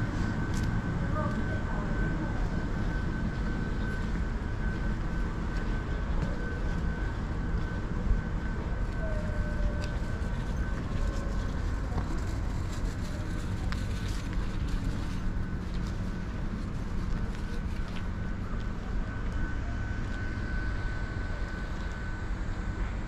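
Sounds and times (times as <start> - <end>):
train equipment low hum: 0.0 - 23.0.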